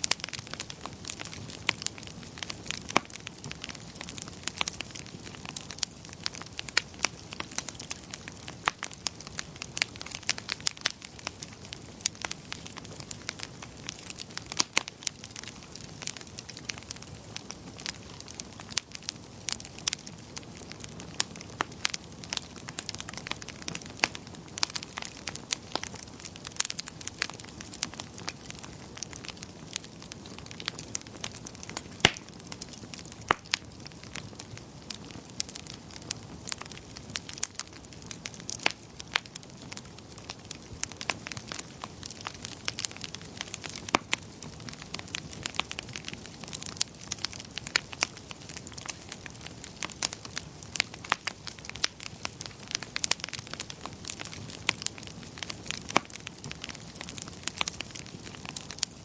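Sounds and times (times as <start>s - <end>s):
soft steady hiss: 0.0s - 59.0s
wood fire crackling: 0.0s - 59.0s.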